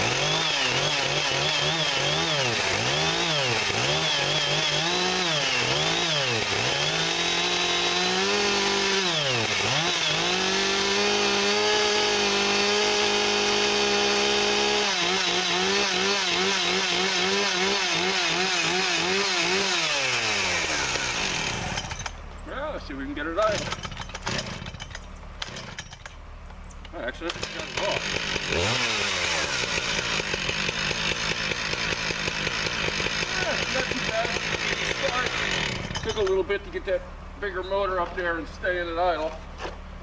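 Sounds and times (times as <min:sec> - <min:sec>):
chainsaw revving: 0:00.0 - 0:22.2, 0:23.4 - 0:26.1, 0:27.1 - 0:36.7.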